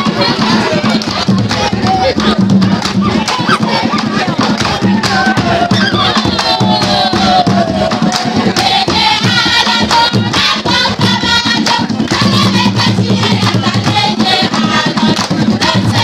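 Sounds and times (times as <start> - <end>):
group of voices singing: 0.0 - 16.0
hand drums playing: 0.0 - 16.0.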